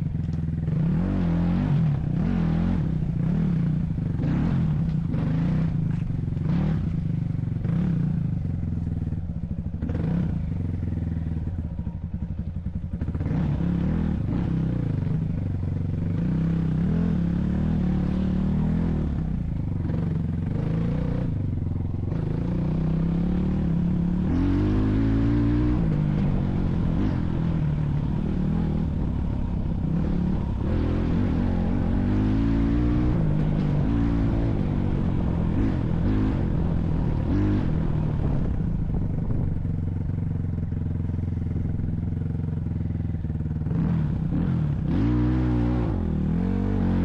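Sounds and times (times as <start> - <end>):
vehicle engine revving: 0.0 - 8.9, 9.8 - 10.8, 13.0 - 47.0.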